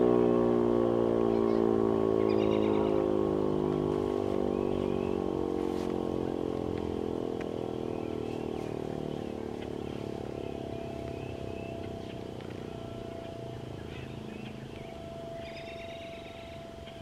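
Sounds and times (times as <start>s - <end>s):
warning siren winding down: 0.0s - 17.0s.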